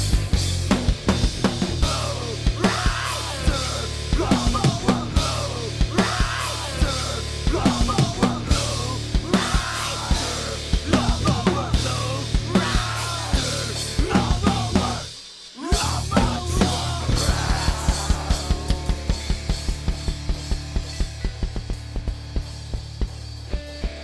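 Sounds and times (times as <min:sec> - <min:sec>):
rock band playing: 0:00.0 - 0:24.0.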